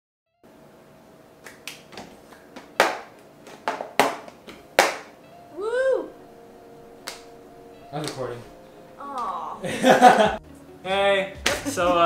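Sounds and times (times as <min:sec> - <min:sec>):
faint steady hum: 0:00.4 - 0:11.2.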